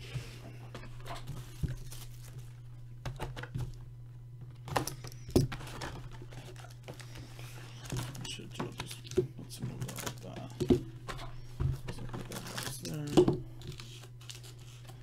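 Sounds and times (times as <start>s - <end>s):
plastic wrap crinkling: 0.8s - 2.8s, 4.7s - 15.0s.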